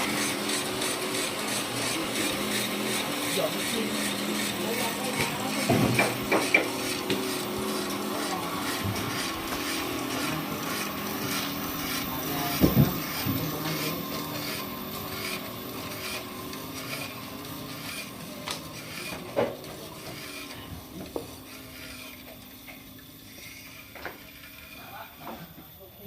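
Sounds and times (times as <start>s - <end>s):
sawmill machinery humming: 0.0s - 26.0s.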